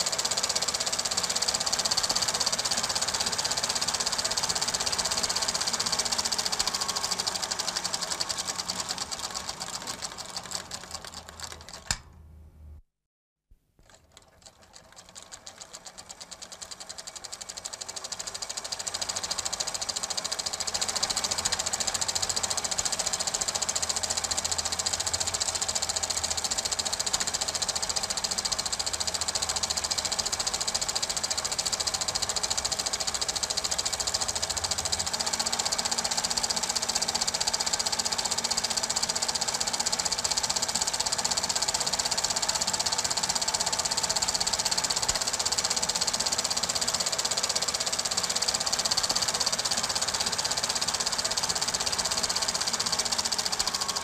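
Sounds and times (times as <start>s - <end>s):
film projector clatter: 0.0s - 12.1s, 13.8s - 54.0s.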